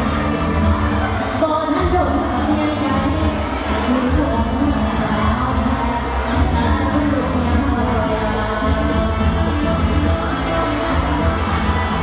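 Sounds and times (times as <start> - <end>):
pop music over sound system: 0.0 - 12.0.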